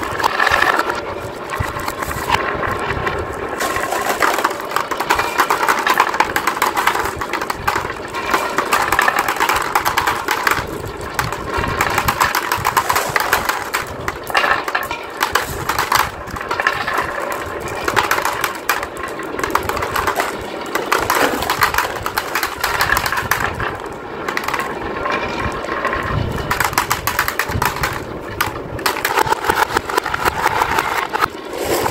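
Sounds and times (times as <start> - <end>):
glass marbles rattling on wooden tracks: 0.0 - 31.9.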